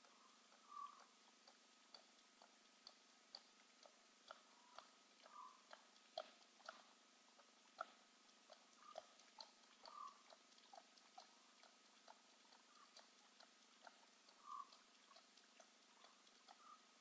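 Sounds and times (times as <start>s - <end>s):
animals lapping water: 0.0s - 17.0s
low steady hum: 0.0s - 17.0s.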